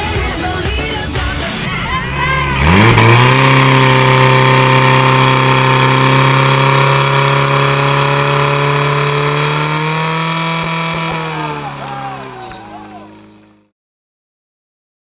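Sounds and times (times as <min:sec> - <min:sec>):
pump engine revving: 0:01.4 - 0:13.7.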